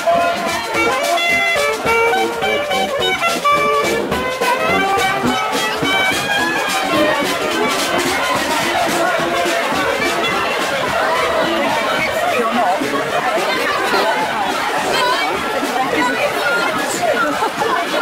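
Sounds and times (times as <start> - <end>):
marching brass band playing: 0.0 - 18.0.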